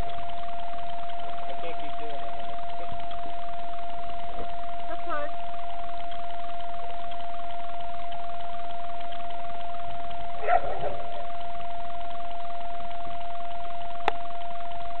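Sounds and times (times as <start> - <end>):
steady high-pitched tone: 0.0 - 15.0.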